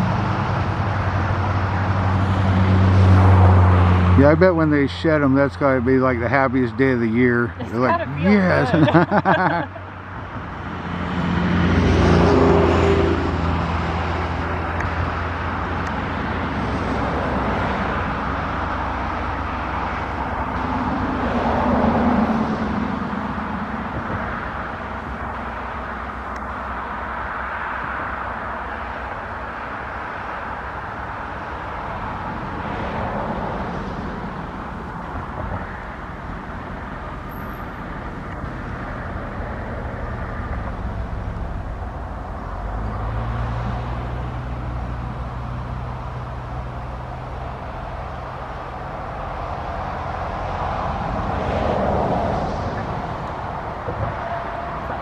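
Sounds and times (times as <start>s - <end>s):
low engine hum: 0.0s - 55.0s
traffic rumble: 0.0s - 55.0s.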